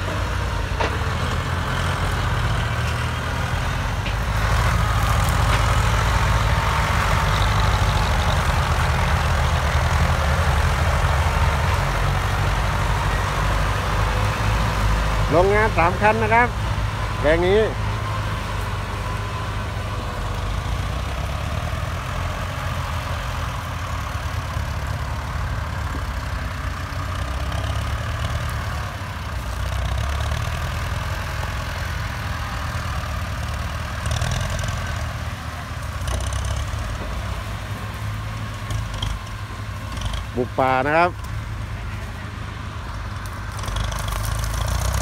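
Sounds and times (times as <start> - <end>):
tractor diesel engine running: 0.0 - 45.0
tractor pushing through brush: 0.0 - 45.0.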